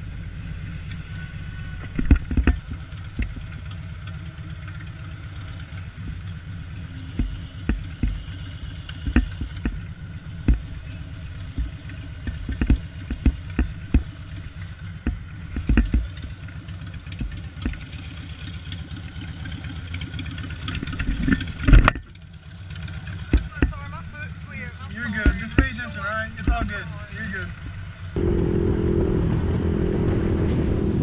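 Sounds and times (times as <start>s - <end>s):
motorcycle engine idling: 0.0s - 28.4s.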